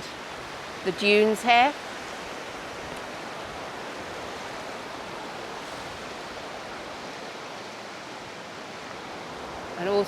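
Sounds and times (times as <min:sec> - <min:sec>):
surf washing on sand: 0:00.0 - 0:10.0.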